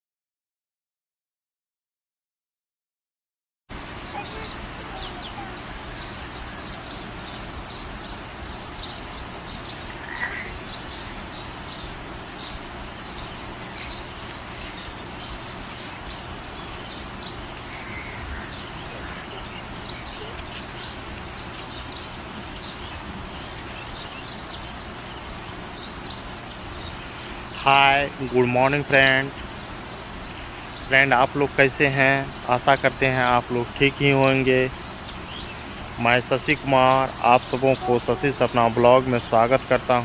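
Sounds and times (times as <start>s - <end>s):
small birds chirping: 3.7s - 40.0s
steady background hiss: 3.7s - 40.0s
lower bird calls: 3.8s - 40.0s.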